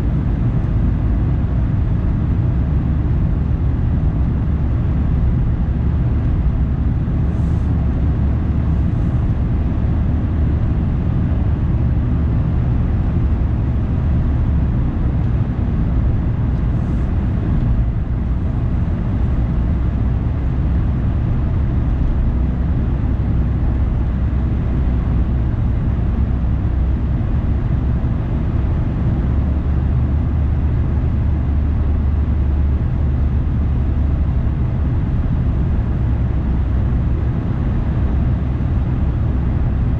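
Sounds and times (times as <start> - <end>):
car engine rumble: 0.0 - 39.9
tyre road noise: 0.0 - 39.9.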